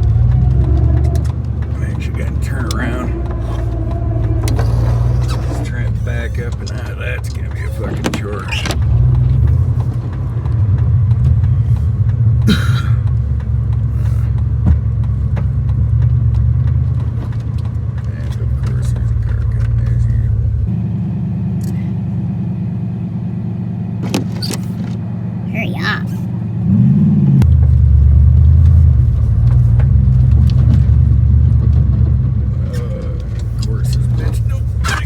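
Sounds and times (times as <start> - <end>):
truck engine running under load: 0.0 - 35.0.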